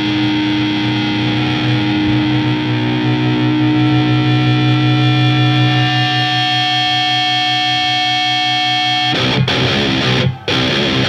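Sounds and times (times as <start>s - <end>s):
pulsing low note: 0.0s - 10.1s
distorted electric guitars droning: 0.0s - 11.0s.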